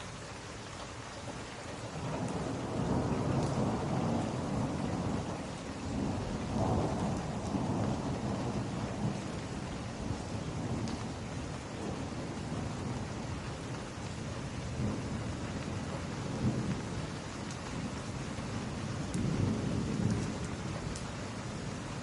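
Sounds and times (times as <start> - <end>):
rain on window glass: 0.0 - 22.0
wood fire crackles: 0.0 - 22.0.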